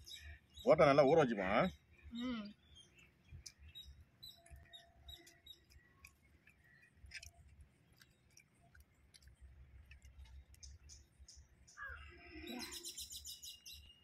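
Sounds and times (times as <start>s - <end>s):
people eating by hand: 0.4s - 13.0s.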